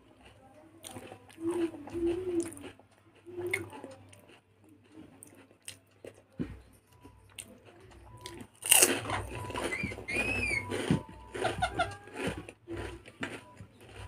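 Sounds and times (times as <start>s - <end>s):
crunching and chewing food: 0.0s - 14.0s.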